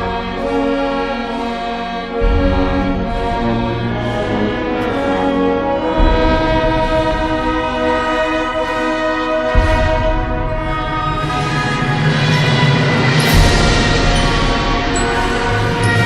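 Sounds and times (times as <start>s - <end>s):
brass band playing funeral march: 0.0s - 16.0s.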